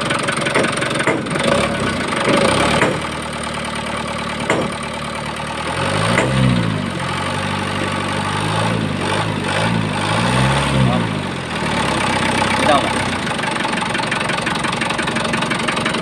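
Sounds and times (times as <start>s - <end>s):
diesel engine knocking: 0.0s - 16.0s
engine revving: 0.0s - 16.0s.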